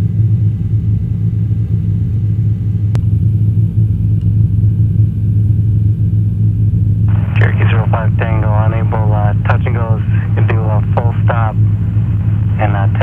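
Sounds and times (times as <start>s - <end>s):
helicopter cabin drone: 0.0s - 13.0s.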